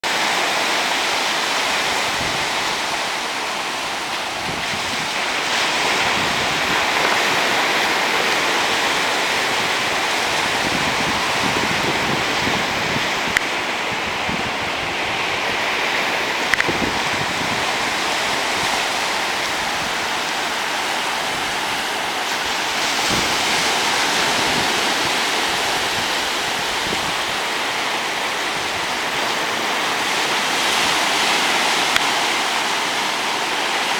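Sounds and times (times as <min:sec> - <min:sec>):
surf breaking on beach: 0:00.0 - 0:33.9.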